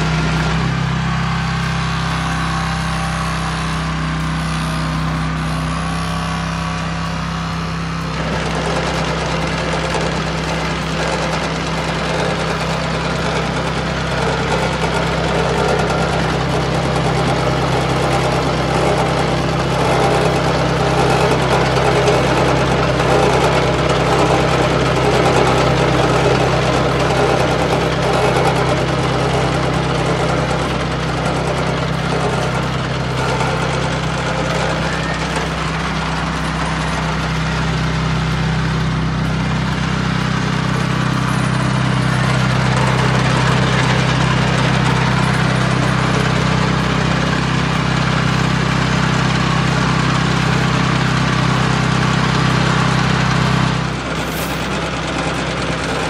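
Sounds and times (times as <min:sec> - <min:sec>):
beach cleaner engine running: 0:00.0 - 0:56.0.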